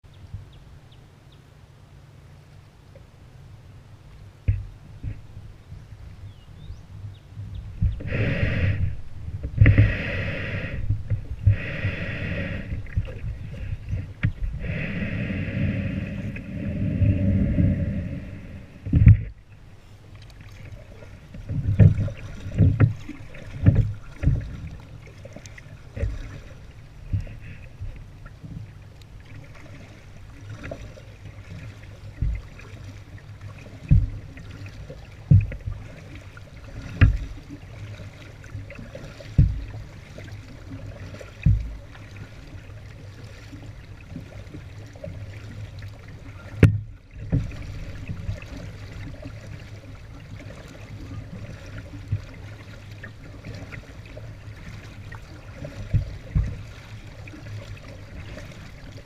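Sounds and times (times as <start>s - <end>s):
paddle strokes thudding: 7.0s - 59.0s
water washing: 7.8s - 19.4s, 20.2s - 59.0s.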